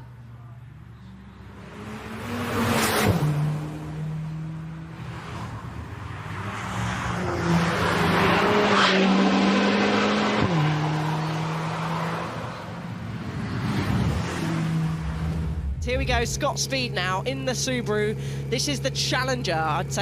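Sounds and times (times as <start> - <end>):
racing car engine revving: 0.9 - 20.0.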